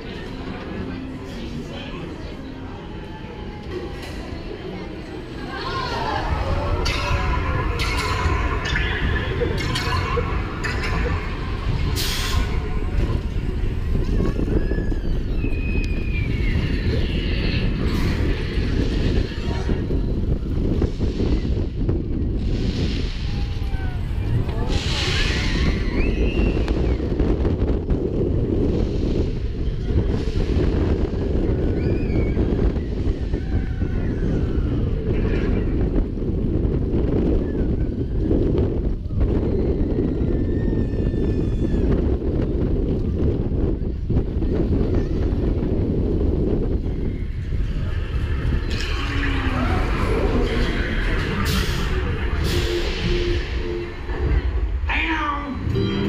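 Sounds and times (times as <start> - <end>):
roller coaster rumbling on track: 0.0 - 56.0
wind buffeting microphone: 0.0 - 56.0.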